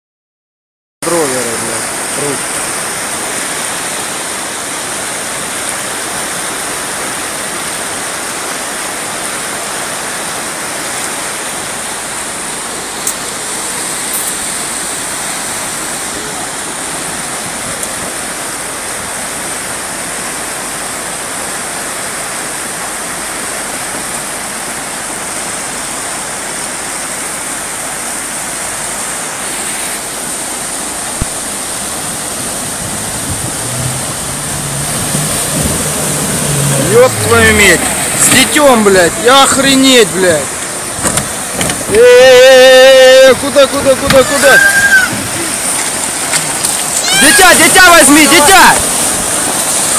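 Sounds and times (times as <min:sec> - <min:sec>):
river rushing: 0:01.0 - 0:49.9.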